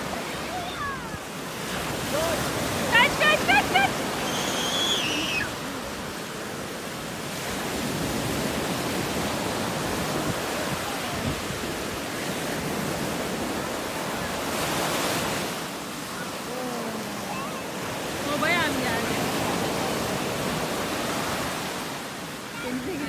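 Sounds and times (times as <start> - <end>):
surf washing on sandy shore: 0.0 - 23.0.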